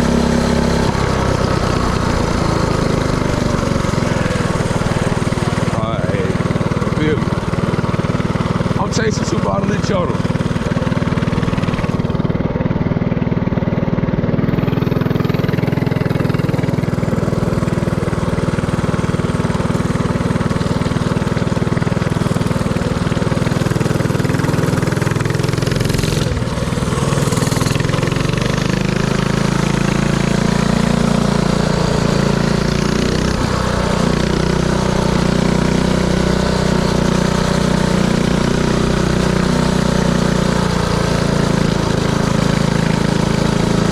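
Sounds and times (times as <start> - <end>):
mini-bike engine running: 0.0 - 43.9.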